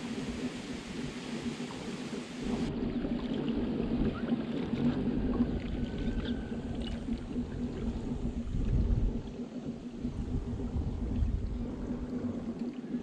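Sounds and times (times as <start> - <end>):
low drive hum: 0.0 - 13.0
rough rumble of water and wind: 0.0 - 13.0.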